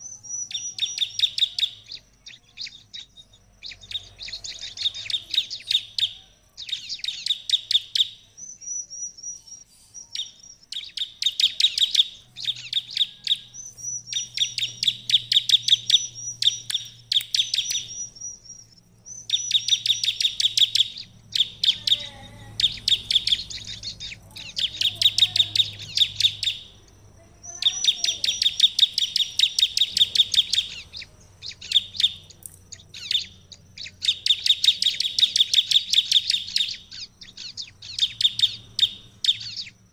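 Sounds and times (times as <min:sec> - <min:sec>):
bird song of dry chips: 0:00.0 - 0:39.9
thin high whistled bird notes: 0:00.0 - 0:39.9.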